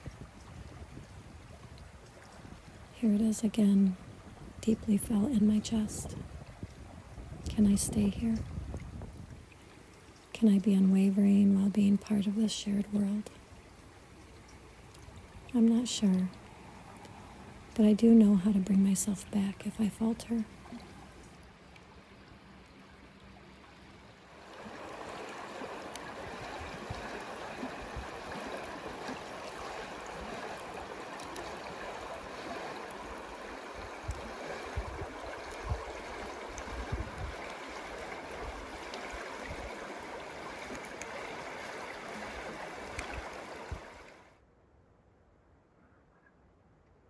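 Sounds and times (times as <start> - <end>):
running water flowing: 0.0 - 44.3.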